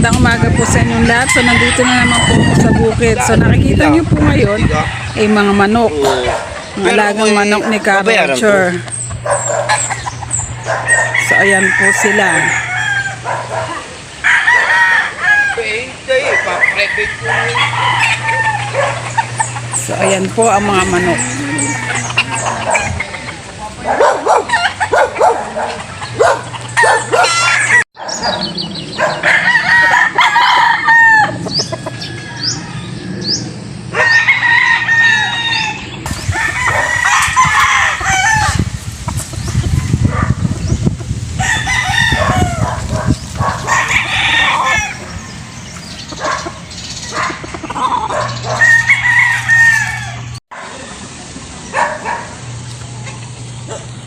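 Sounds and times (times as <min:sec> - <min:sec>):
roosters crowing: 0:00.0 - 0:54.0.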